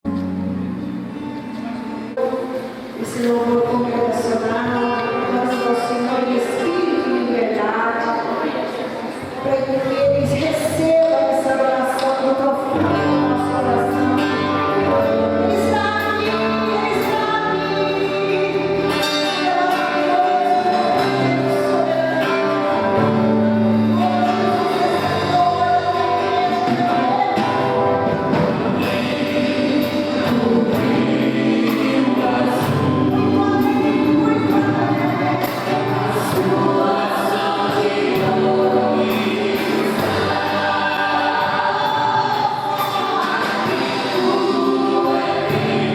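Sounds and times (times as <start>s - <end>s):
choir singing gospel over a beat: 3.0s - 45.9s.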